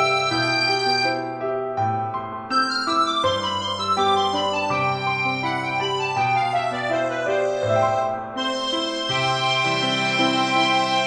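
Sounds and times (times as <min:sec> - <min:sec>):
keyboard chords: 0:00.0 - 0:11.0.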